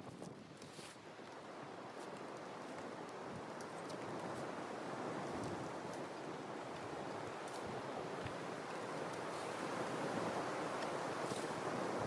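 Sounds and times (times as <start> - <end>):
blizzard wind on microphone: 0.0 - 12.0.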